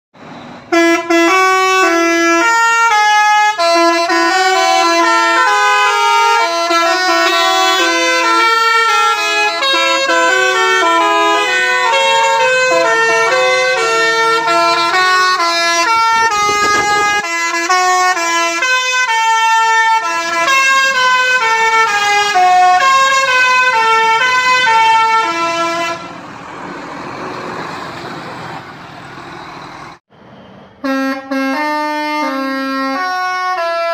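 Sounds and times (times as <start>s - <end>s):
musical bus horns playing a tune: 0.6s - 26.2s, 30.8s - 33.9s.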